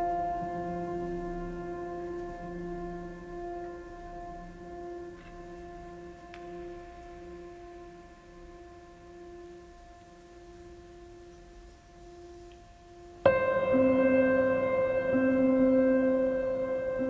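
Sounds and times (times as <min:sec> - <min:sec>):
soft sustained music tones: 0:00.0 - 0:17.0.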